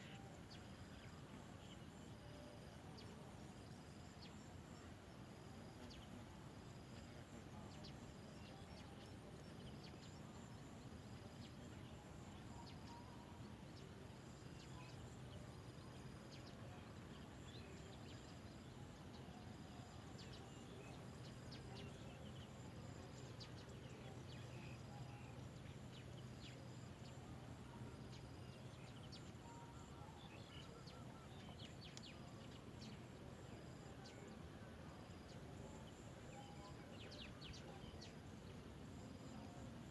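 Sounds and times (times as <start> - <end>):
faint chirps: 0.0 - 39.9.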